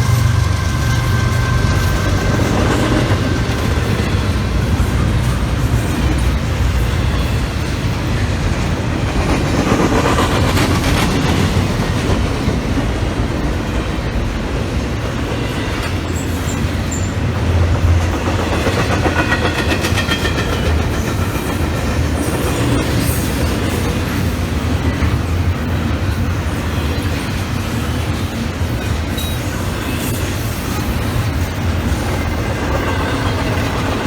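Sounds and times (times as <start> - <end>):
freight train cars rumbling: 0.0 - 34.0
wheels clacking over rails: 0.0 - 34.0.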